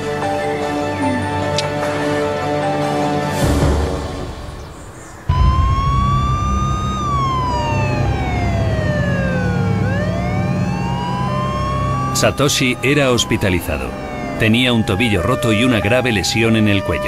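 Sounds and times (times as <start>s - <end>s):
emergency vehicle siren wailing: 0.0s - 3.3s, 5.3s - 17.0s
background music: 0.0s - 17.0s.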